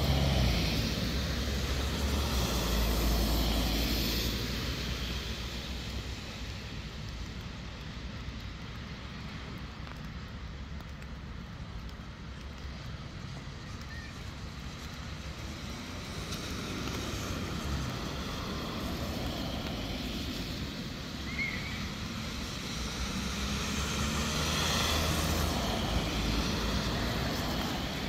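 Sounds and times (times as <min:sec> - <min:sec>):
cars passing on wet road: 0:00.0 - 0:28.0.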